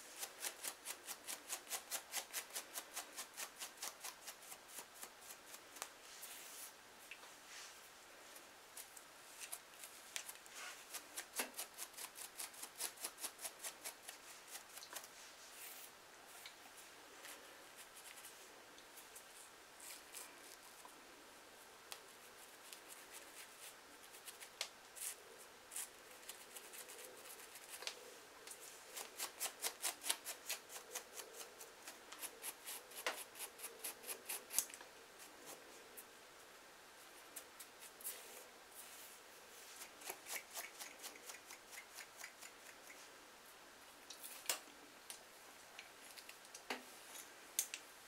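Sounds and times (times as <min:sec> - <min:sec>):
scratching on dry scalp: 0:00.0 - 0:20.9, 0:21.9 - 0:36.1, 0:37.0 - 0:43.1.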